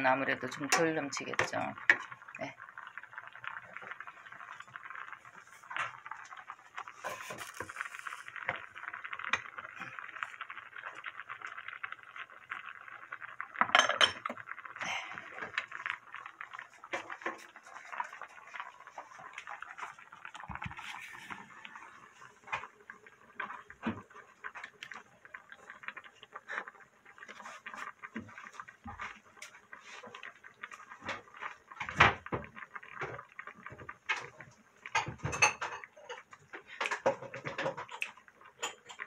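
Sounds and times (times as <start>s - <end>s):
stew bubbling and popping: 0.0s - 39.0s.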